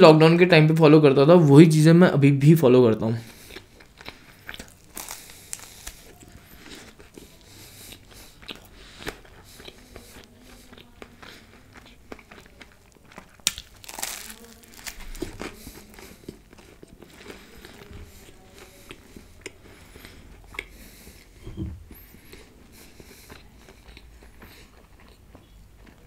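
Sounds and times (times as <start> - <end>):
crunchy chewing of sandwich: 3.2 - 26.0.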